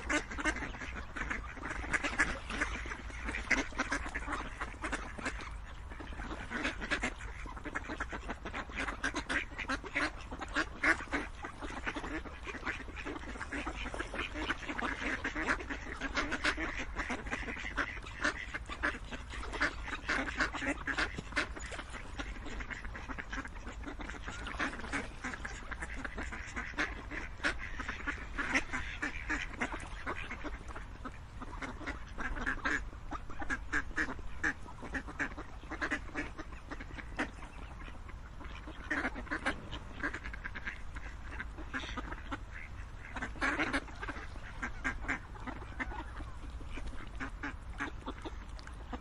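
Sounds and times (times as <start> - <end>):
ducks quacking: 0.0 - 49.0.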